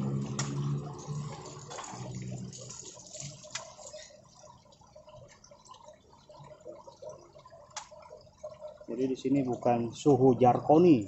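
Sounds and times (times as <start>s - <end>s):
water dripping and splashing: 0.0s - 11.0s.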